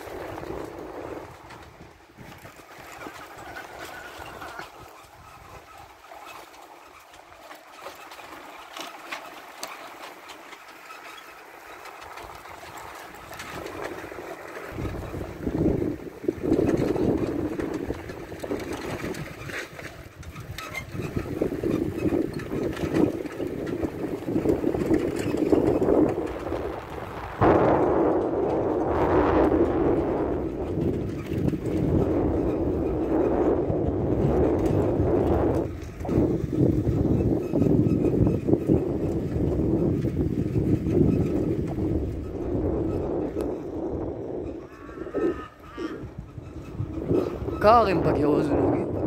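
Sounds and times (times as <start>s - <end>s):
rattles and clicks: 0.0s - 44.8s
moving vehicle rumble: 0.0s - 49.0s
wind buffeting microphone: 0.0s - 49.0s.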